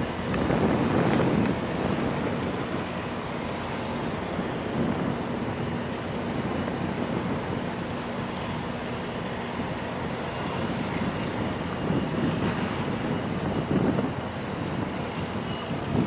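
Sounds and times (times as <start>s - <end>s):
ship engine low rumble: 0.0s - 16.0s
wind buffeting microphone: 0.0s - 16.0s.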